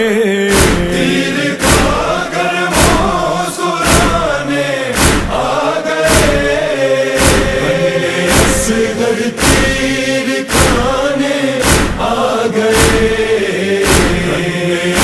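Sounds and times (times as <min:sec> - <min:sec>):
men chanting in held tones: 0:00.0 - 0:15.0
chest-beating rhythm: 0:00.5 - 0:15.0.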